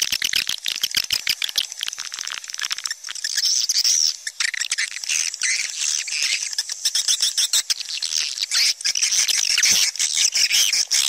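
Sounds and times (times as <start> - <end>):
chorus of swiftlet chirps and twitters: 0.0 - 11.0.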